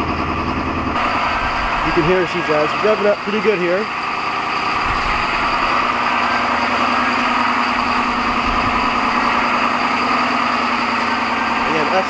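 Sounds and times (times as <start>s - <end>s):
diesel engine high idle: 0.0s - 12.0s
turbo spooling: 0.0s - 12.0s.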